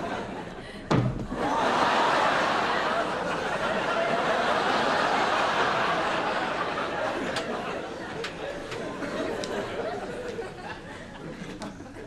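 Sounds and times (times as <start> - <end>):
studio audience laughing: 0.0 - 12.0.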